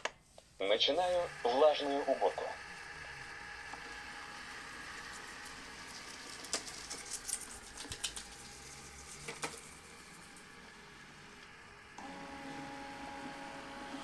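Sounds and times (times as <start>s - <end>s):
robot vacuum motor hum: 1.0s - 14.0s.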